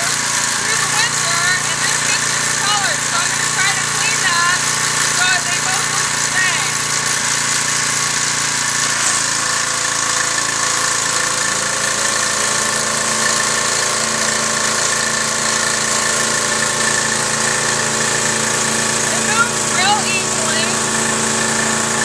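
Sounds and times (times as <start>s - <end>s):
pressure washer engine running: 0.0s - 22.0s
water jets hissing on concrete: 0.0s - 22.0s.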